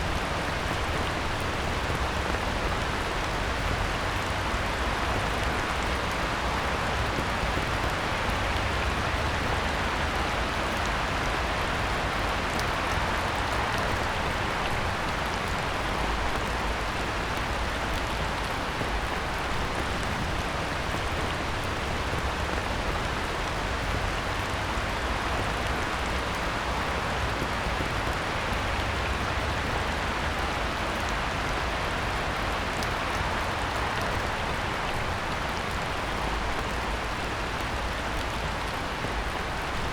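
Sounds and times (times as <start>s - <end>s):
heavy rain falling on a pond: 0.0s - 39.9s.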